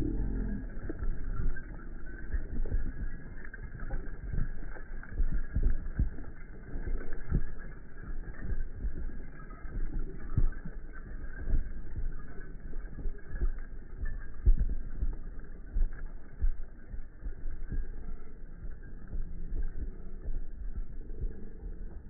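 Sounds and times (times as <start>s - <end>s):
hooves thudding on dirt: 0.0s - 22.0s
low rumble: 0.0s - 22.0s.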